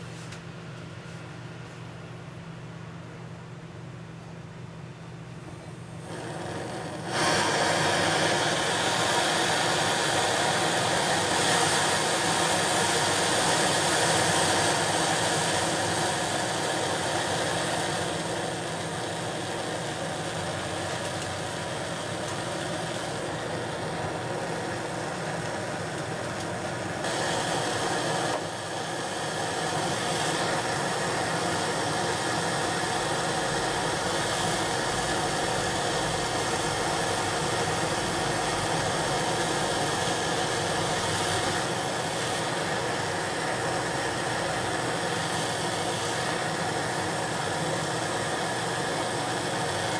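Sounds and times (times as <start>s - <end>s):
gas stove burner roaring: 0.0s - 49.9s.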